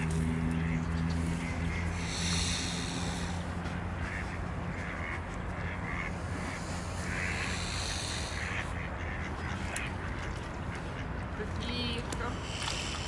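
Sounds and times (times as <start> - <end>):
ducks quacking: 0.3 - 13.0.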